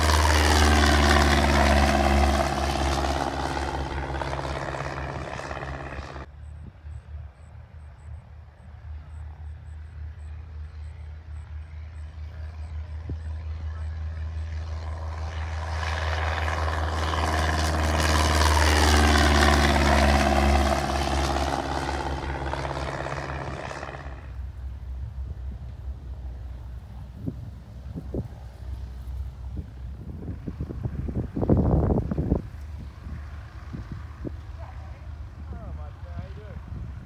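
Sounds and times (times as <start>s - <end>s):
propeller plane engine passing: 0.0s - 37.0s.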